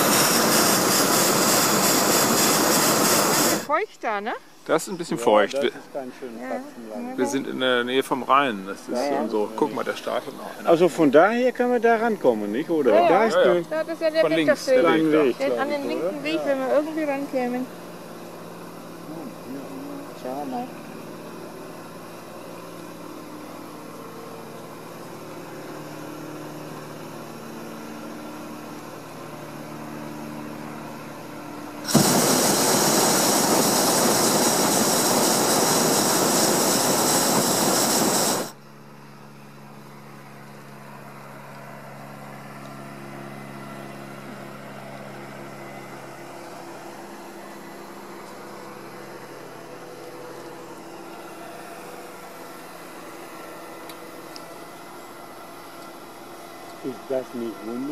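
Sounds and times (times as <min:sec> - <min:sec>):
propane burner roaring: 0:00.0 - 0:57.9.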